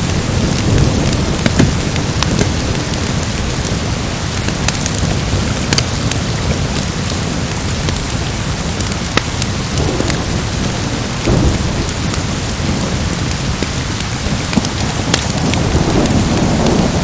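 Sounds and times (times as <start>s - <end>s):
heavy rain: 0.0s - 17.0s
low thunder rumble: 0.0s - 17.0s
wood fire crackling: 0.0s - 17.0s.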